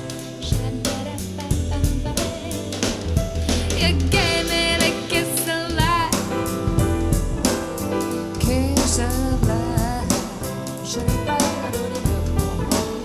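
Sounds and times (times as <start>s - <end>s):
soul jazz music: 0.0s - 13.0s.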